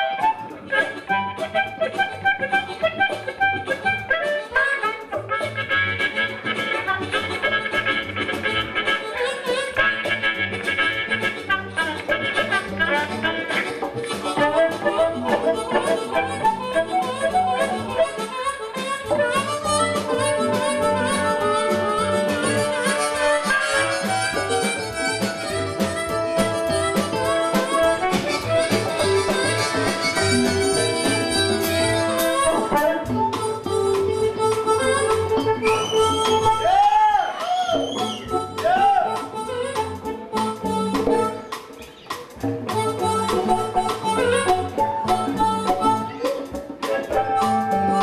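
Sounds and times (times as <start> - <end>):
instrumental music with reedy notes: 0.0 - 48.0.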